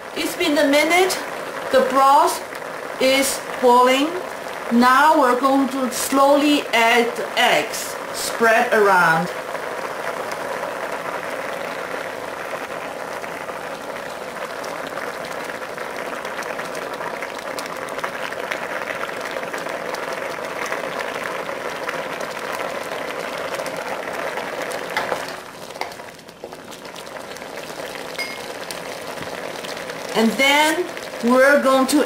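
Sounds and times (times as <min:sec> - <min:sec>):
broth bubbling at a boil: 0:00.0 - 0:32.0.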